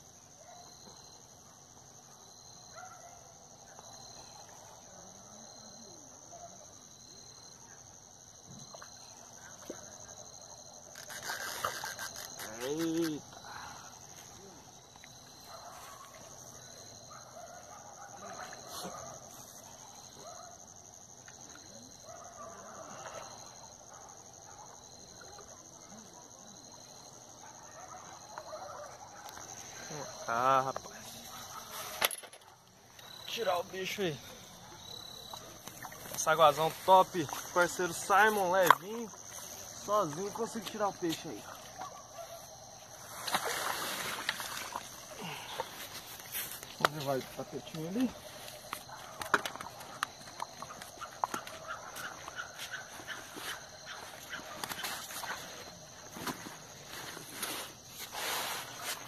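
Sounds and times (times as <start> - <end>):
low insect chirps: 0.0 - 57.1
crickets trilling: 0.0 - 59.0
faint scattered calls: 2.1 - 57.1.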